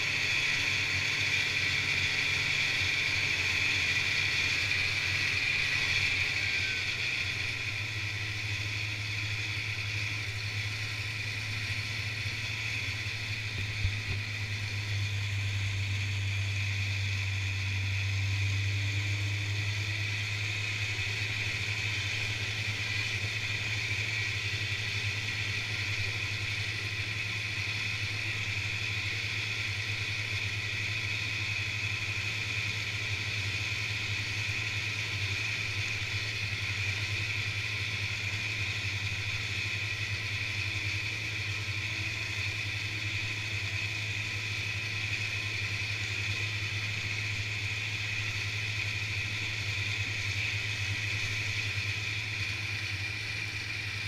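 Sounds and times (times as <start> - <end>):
snowmobile engine running: 0.0 - 54.0
snowmobile track hiss: 0.0 - 54.0.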